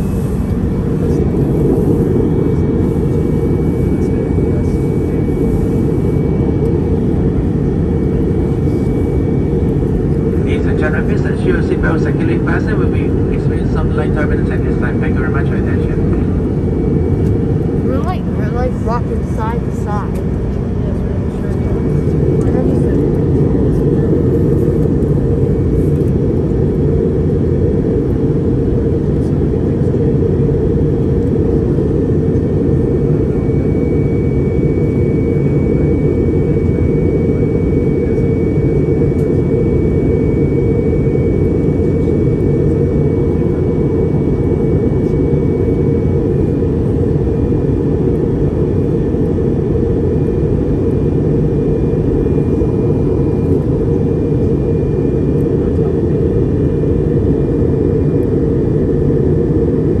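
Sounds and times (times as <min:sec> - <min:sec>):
airplane cabin roar: 0:00.0 - 1:00.0.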